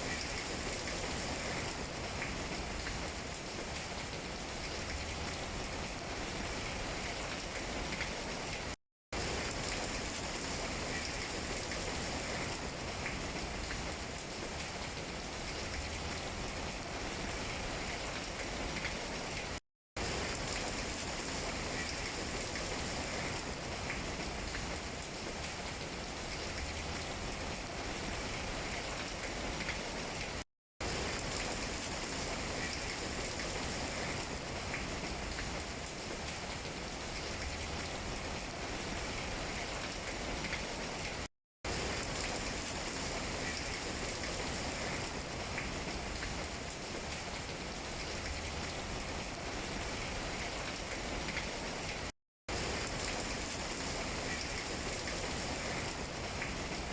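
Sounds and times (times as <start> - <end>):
rain falling on tree leaves: 0.0 - 56.9.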